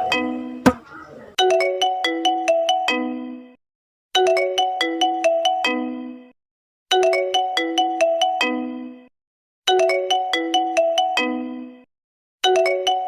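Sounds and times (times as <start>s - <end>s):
ringtone melody: 0.0s - 0.6s, 1.4s - 3.6s, 4.2s - 9.1s, 9.7s - 13.0s.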